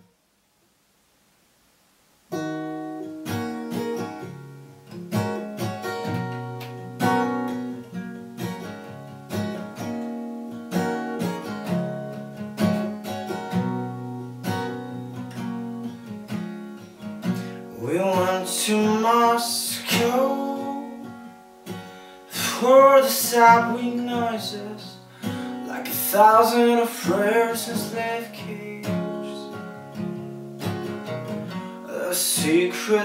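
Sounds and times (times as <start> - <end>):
acoustic guitar chords: 2.3 - 33.0.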